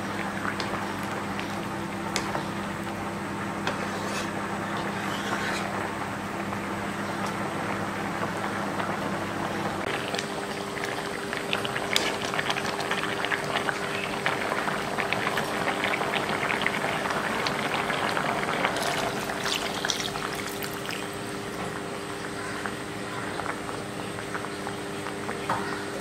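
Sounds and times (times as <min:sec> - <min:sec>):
curry bubbles crackling: 0:00.0 - 0:26.0.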